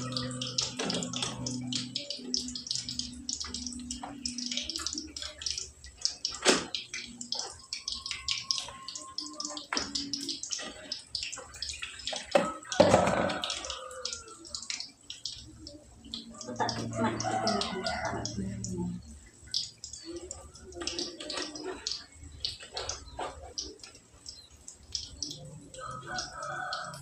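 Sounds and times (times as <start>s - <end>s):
water sloshing and dripping: 0.0s - 27.0s.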